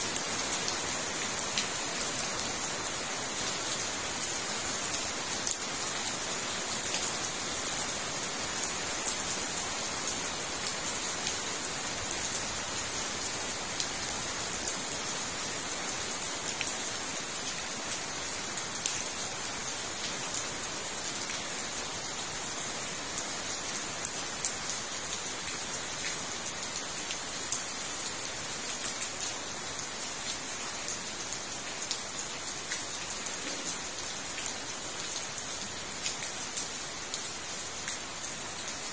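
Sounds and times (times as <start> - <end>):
rain falling on pond and paving: 0.0 - 38.9.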